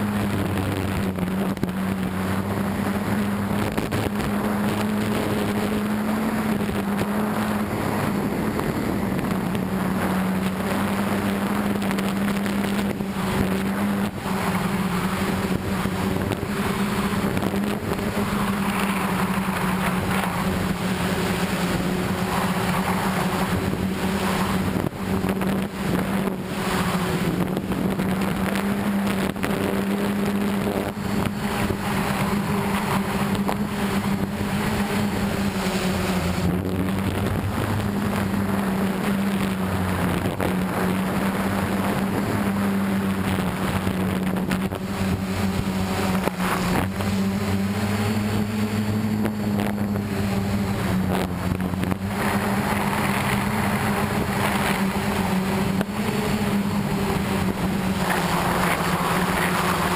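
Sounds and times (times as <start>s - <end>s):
drone motors humming: 0.0s - 59.9s
wind on microphone: 0.0s - 59.9s.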